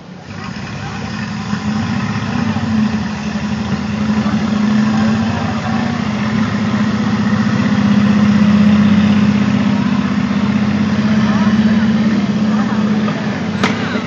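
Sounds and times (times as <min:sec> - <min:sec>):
tank engine droning: 0:00.0 - 0:14.0.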